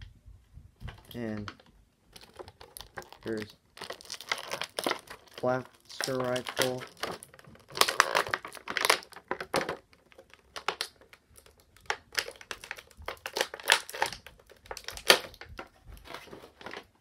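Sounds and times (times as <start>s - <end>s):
plastic packaging crinkling: 0.8s - 17.0s.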